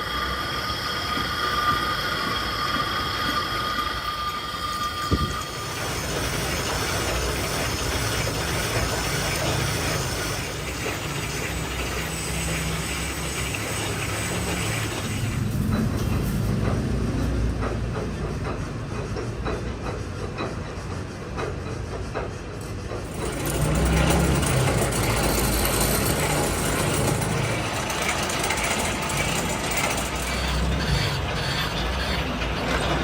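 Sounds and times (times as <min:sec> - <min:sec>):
machinery rumble and hiss: 0:00.0 - 0:33.0.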